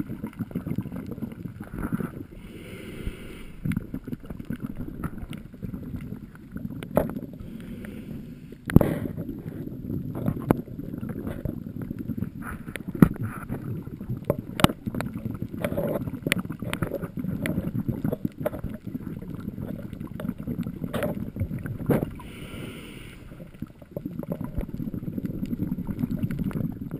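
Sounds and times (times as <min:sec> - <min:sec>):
underwater rumble of moving water: 0:00.0 - 0:26.9.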